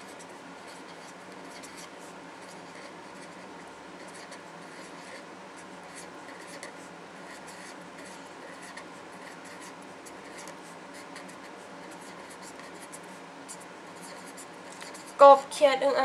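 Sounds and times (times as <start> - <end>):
pen scratching on paper: 0.0 - 15.2
faint background hum: 0.0 - 16.0.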